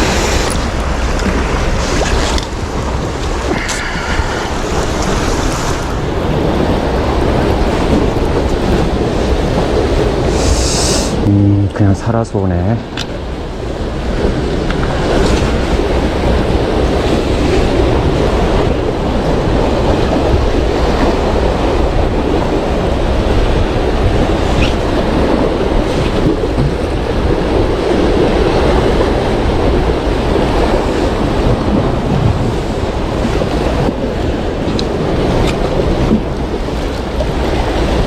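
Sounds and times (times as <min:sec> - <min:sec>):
sea waves on rocks: 0:00.0 - 0:38.0
wind buffeting microphone: 0:00.0 - 0:38.0.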